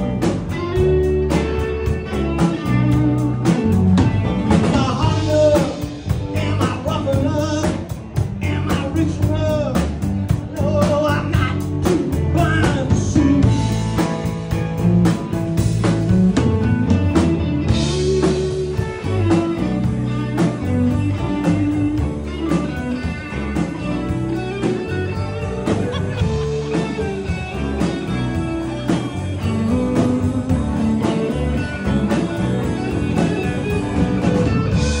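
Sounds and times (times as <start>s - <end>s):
electric guitar: 0.0s - 35.0s
live band playing: 0.0s - 35.0s.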